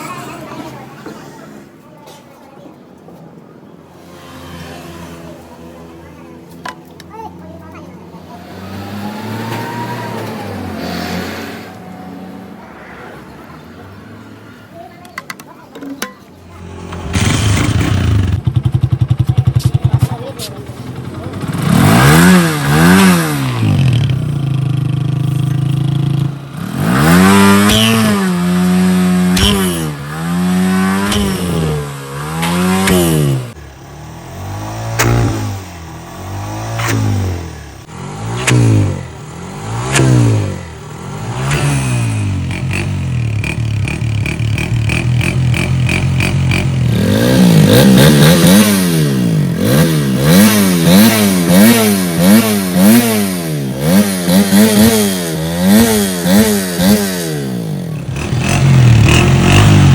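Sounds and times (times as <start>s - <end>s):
motorcycle engine revving: 8.2s - 14.5s, 16.4s - 59.9s.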